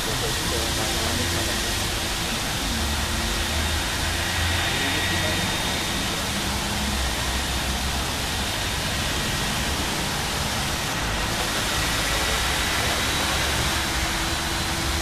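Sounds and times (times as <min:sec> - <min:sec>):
car tyres hissing on wet road: 0:00.0 - 0:15.0.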